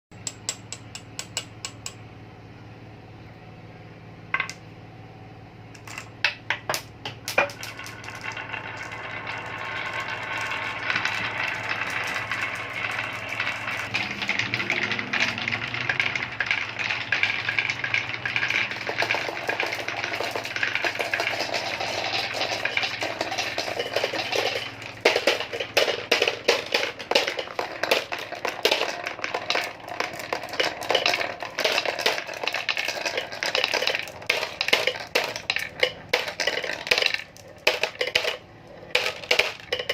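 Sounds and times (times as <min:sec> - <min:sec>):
marbles rolling on wooden track: 0:05.8 - 0:39.9
marbles clinking: 0:07.3 - 0:39.9.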